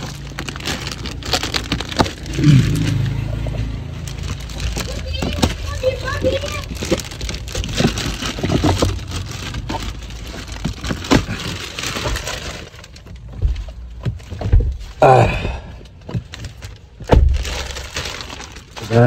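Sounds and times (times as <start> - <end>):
plastic film peeling and crinkling: 0.0 - 14.9, 16.1 - 19.0.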